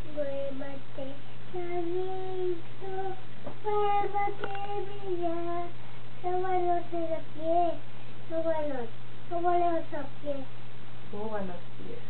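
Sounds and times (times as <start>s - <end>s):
toddler girl singing: 0.0s - 10.5s.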